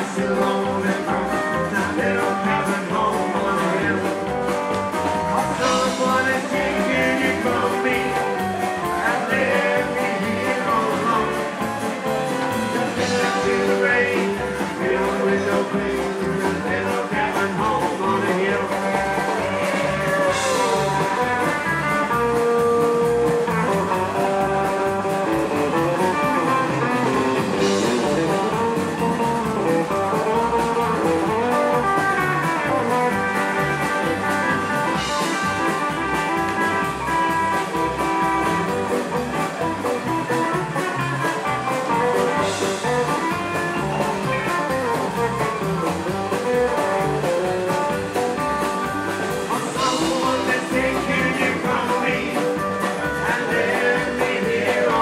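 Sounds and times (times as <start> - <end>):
acoustic guitar: 0.0 - 55.0
drums: 0.0 - 55.0
electric guitar: 0.0 - 55.0
keyboard: 0.0 - 55.0
upright double bass: 0.0 - 55.0.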